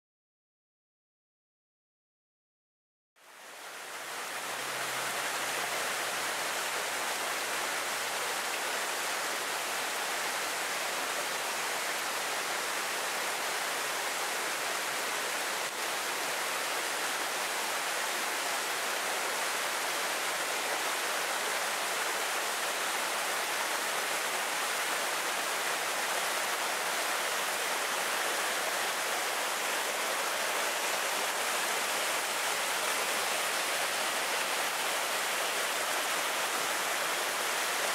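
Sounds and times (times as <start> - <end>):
waterfall rushing: 3.3 - 37.9.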